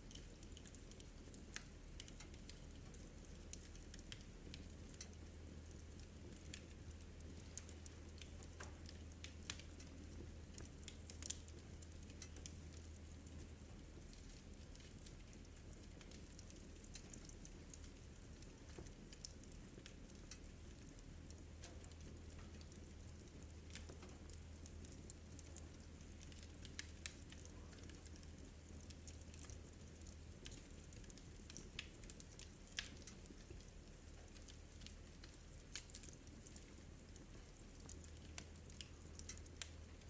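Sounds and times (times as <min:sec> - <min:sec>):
low steady hum: 0:00.0 - 0:40.0
wood fire crackling: 0:00.0 - 0:40.0.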